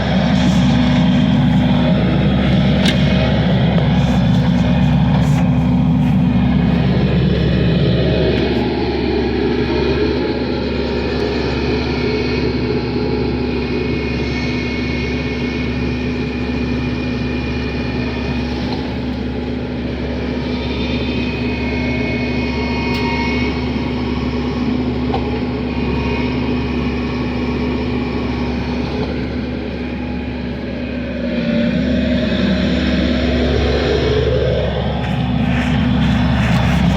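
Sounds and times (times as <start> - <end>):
engine running steadily: 0.0 - 36.9.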